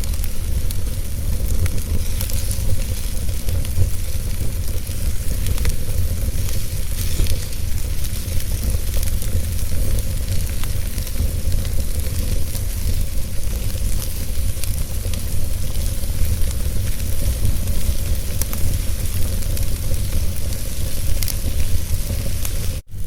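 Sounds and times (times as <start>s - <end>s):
burning wood crackling: 0.0s - 23.0s
flames rumbling and hissing: 0.0s - 23.0s.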